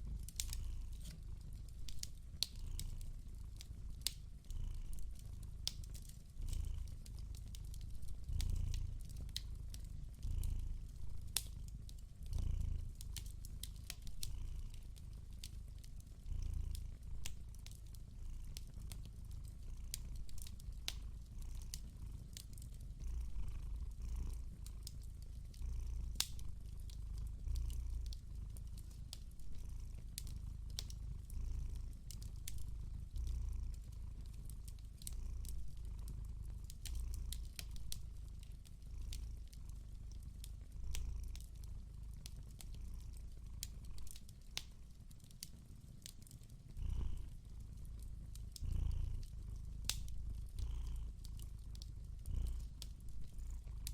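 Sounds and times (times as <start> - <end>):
cat purring: 0.0 - 53.9
wood fire crackling: 0.0 - 53.9.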